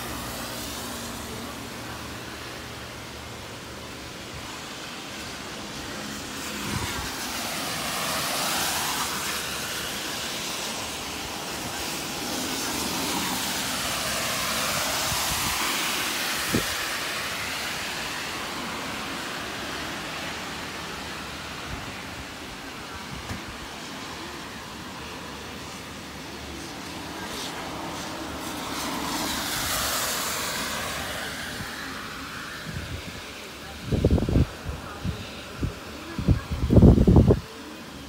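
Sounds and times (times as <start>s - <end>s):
heavy rain hissing: 0.0s - 38.0s.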